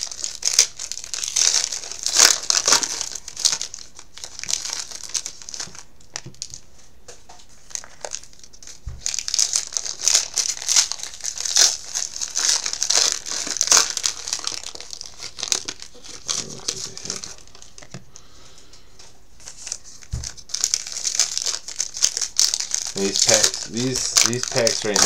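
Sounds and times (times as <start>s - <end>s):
wrappers tearing and crinkling: 0.0s - 6.7s, 7.4s - 18.2s, 19.4s - 25.0s.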